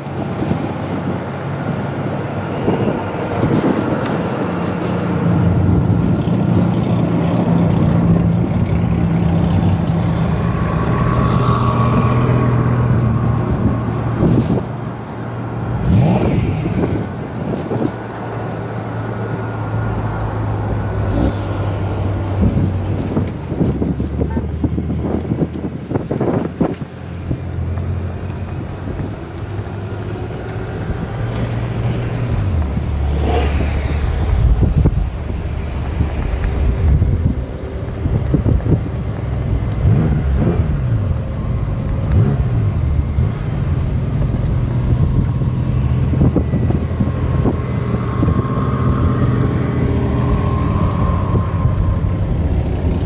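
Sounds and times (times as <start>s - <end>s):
cars driving slowly past: 0.0s - 53.0s.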